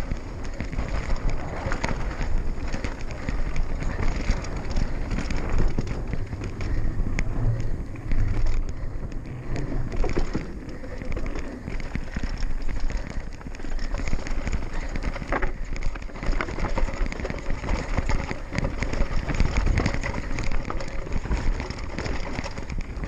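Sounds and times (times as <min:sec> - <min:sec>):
bike clattering and rattling: 0:00.0 - 0:23.0
tyres crunching over stones: 0:00.0 - 0:23.0
wind noise on camera: 0:00.0 - 0:23.0.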